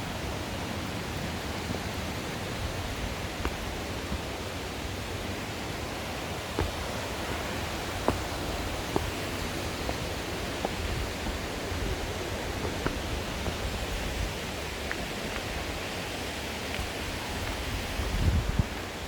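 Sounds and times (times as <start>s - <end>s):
rushing stream and waterfall: 0.0s - 19.0s.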